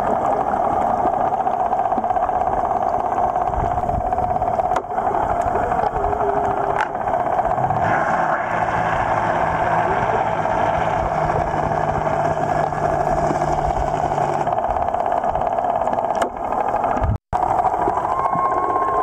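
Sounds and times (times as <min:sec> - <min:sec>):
boat engine drone: 0:00.0 - 0:19.0
underwater water rush: 0:00.0 - 0:19.0.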